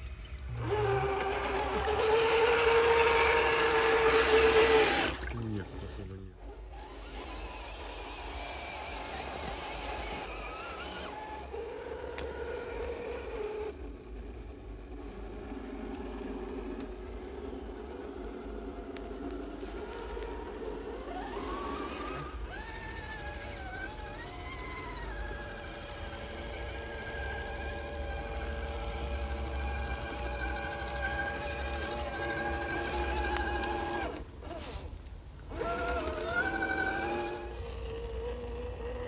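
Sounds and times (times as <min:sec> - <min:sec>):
electric motor and gearbox whining: 0:00.0 - 0:39.0.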